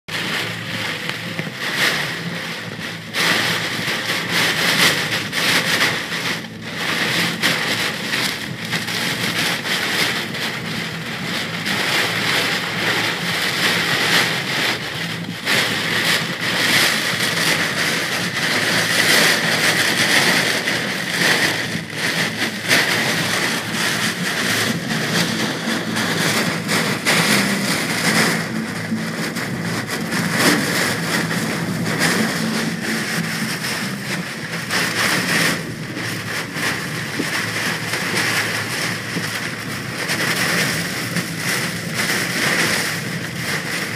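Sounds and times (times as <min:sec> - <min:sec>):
car engine and tyres droning: 0:00.1 - 0:43.9
heavy rain drumming on car: 0:00.1 - 0:43.9.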